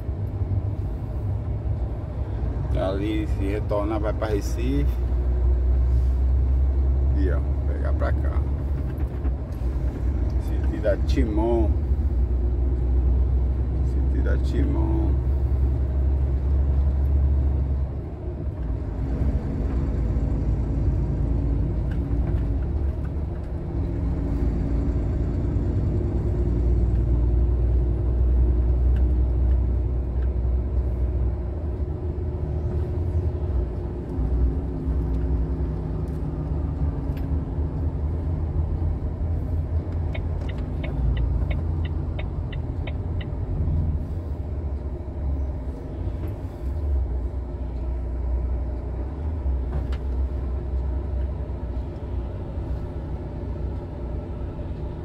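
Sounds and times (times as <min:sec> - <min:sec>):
truck engine rumbling: 0:00.0 - 0:55.0.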